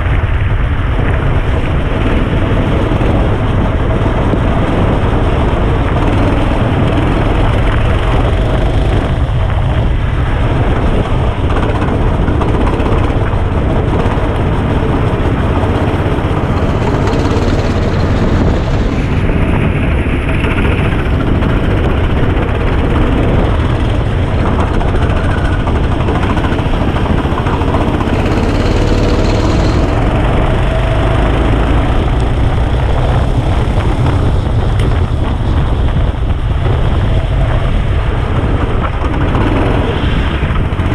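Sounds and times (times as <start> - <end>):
go-kart engine running: 0.0 - 40.9
wind rush: 0.0 - 40.9.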